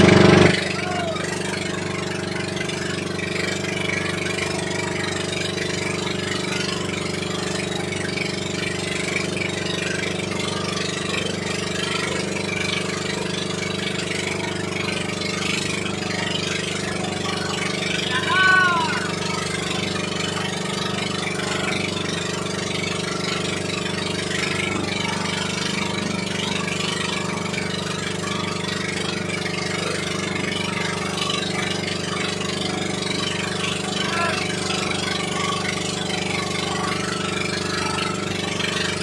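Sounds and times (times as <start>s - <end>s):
boat engine humming: 0.0s - 39.0s.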